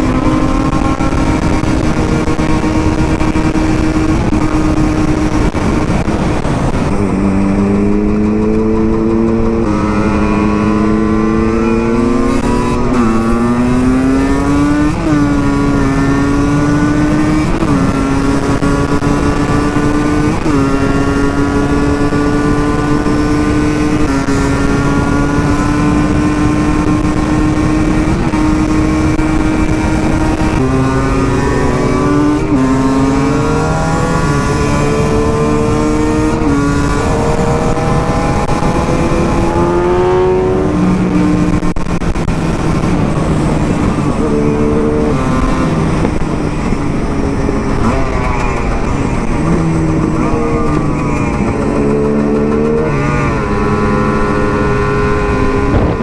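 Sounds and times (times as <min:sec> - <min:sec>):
two-stroke motorcycle engine running: 0:00.0 - 0:56.0.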